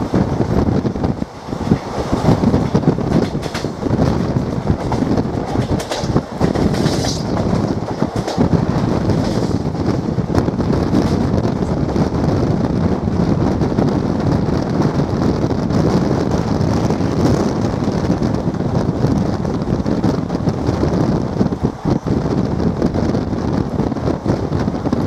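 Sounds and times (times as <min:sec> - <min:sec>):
train rumbling at speed: 0:00.0 - 0:25.0
wind rushing over microphone: 0:00.0 - 0:25.0.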